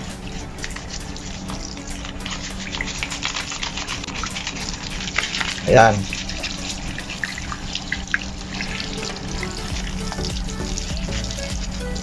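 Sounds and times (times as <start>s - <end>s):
tap water running into sink: 0.0s - 12.0s
toothbrush scrubbing mesh: 0.0s - 12.0s.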